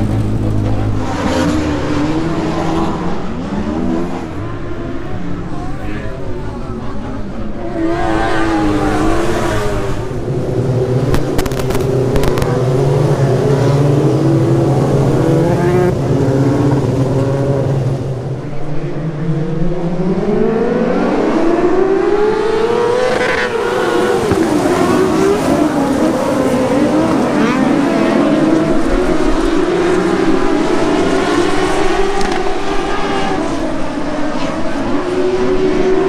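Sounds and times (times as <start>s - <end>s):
race car engines running: 0.0s - 36.0s.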